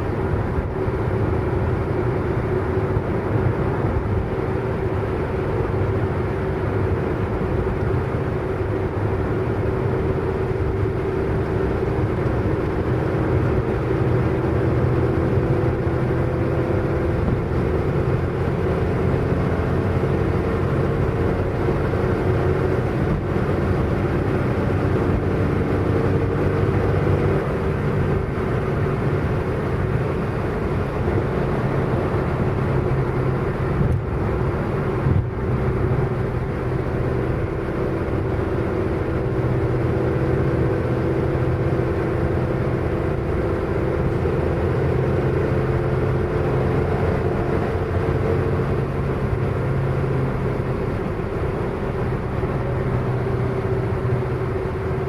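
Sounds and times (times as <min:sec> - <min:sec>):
car engine drone: 0:00.0 - 0:55.0
tyre and road noise: 0:00.0 - 0:55.0.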